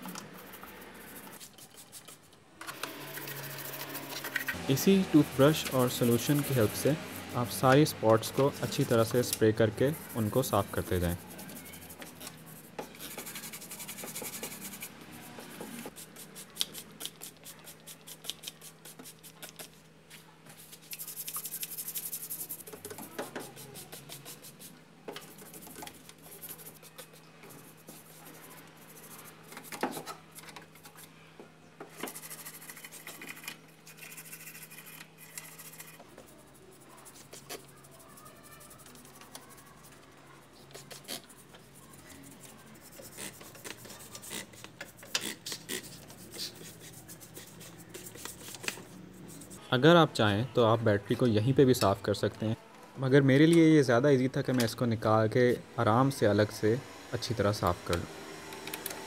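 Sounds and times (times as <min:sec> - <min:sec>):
toothbrush scrubbing parts: 0:00.0 - 0:19.8, 0:20.6 - 0:31.1, 0:31.9 - 0:49.6.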